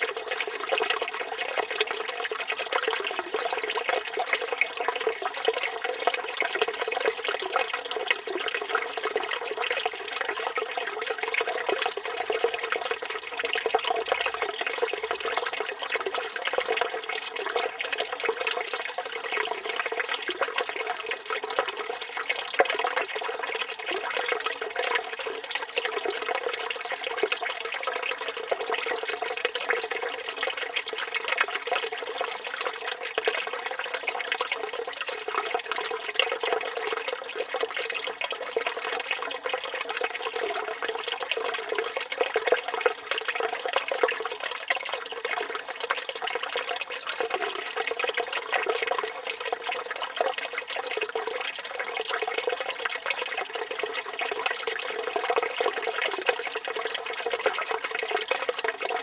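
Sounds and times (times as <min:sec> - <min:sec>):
fountain water splashing into basin: 0:00.0 - 0:59.0.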